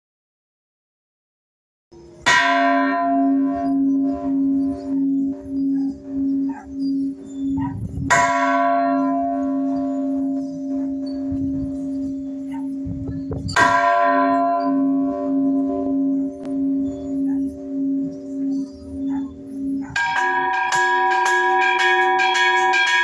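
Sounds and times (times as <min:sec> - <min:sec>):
bell struck loudly: 0:02.2 - 0:23.0
bell pulsing: 0:02.3 - 0:23.0.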